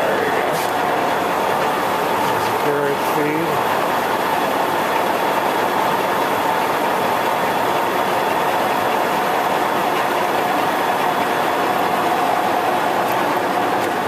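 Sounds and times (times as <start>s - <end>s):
lathe gear-driven whir: 0.0s - 14.0s.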